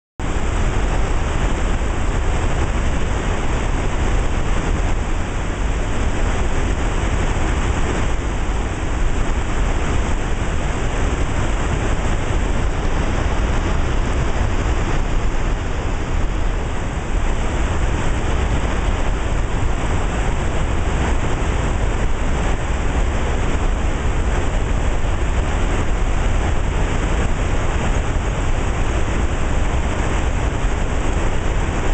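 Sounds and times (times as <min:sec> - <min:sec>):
rushing water roar: 0:00.2 - 0:31.9.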